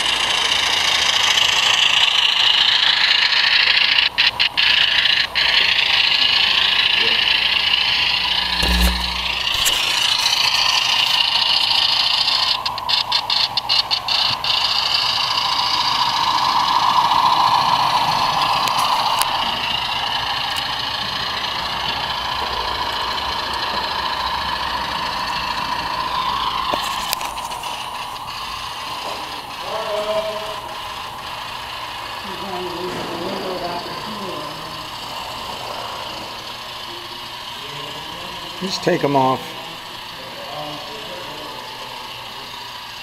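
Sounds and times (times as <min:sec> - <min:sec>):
model locomotive running on track: 0:00.0 - 0:43.0.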